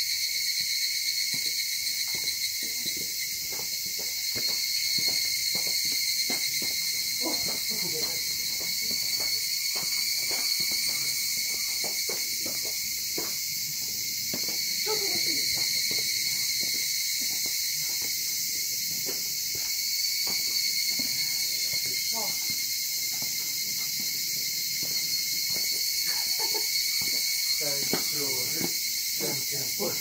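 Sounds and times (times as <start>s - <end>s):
insect chorus drone: 0.0s - 30.0s
faint footsteps: 2.1s - 26.0s, 27.0s - 29.4s.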